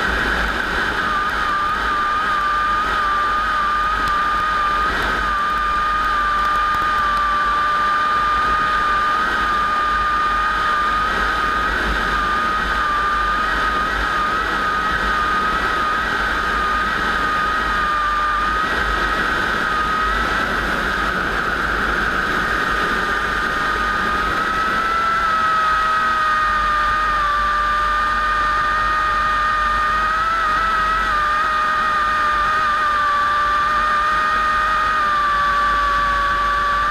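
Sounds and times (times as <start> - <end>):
propeller aircraft droning: 0.0 - 36.9.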